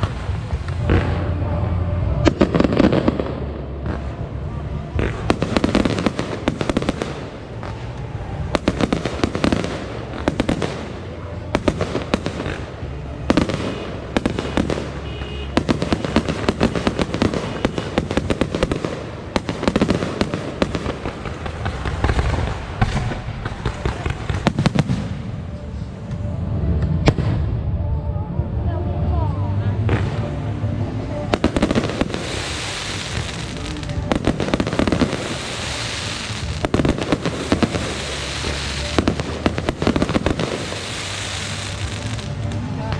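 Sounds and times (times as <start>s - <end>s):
firework bangs: 0.0s - 25.6s, 31.2s - 42.9s
firecrackers crackling: 0.0s - 27.8s, 29.8s - 42.9s.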